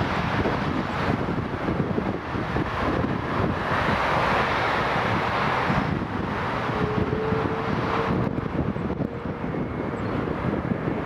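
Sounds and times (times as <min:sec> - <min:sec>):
jet engines rushing: 0:00.0 - 0:11.0
wind buffeting microphone: 0:00.0 - 0:11.0.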